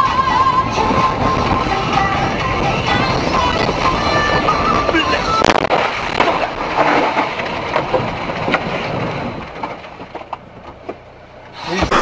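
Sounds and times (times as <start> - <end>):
road and vehicle noise: 0.0 - 12.0.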